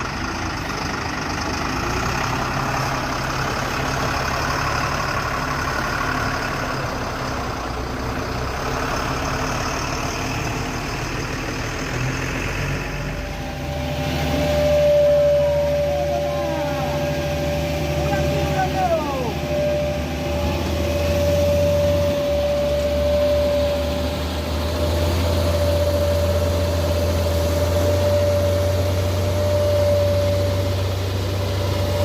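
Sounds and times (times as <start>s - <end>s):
diesel engine running at low revs: 0.0s - 32.0s.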